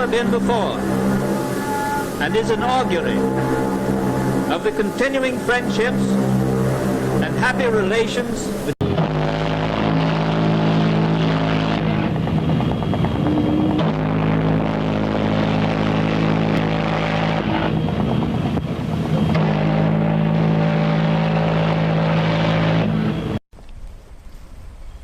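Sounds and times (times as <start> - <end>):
ship's horn blast: 0.0 - 23.4.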